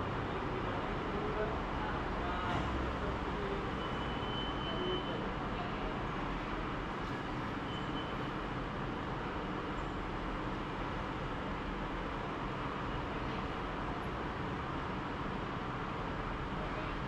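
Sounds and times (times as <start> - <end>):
background traffic: 0.0 - 17.0.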